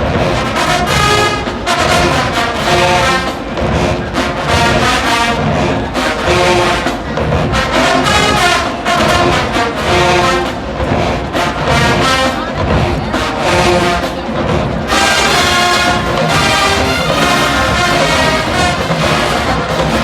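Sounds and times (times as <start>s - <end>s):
brass section playing punchy phrases: 0.0s - 20.0s
marching drums: 0.0s - 20.0s.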